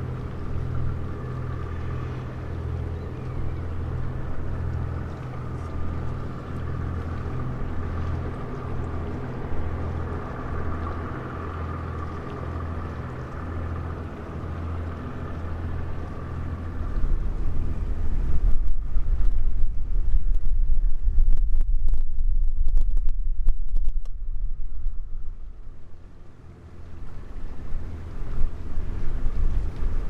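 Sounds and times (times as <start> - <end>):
wind buffeting microphone: 0.0 - 26.2, 26.9 - 30.0
boat engine humming: 0.0 - 30.0.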